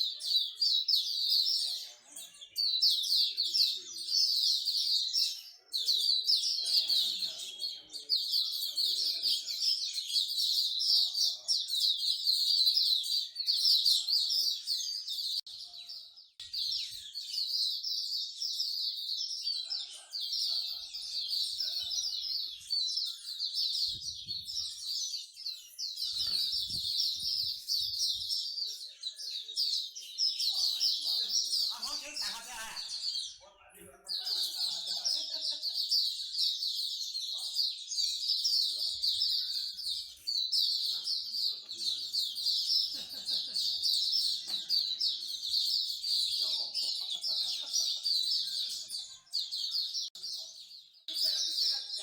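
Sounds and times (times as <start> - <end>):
songbirds chirping and singing: 0.0 - 52.0.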